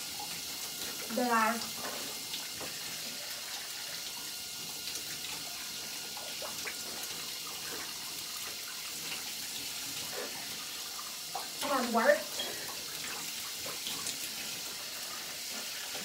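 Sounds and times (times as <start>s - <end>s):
water spraying from shower head: 0.0s - 16.0s.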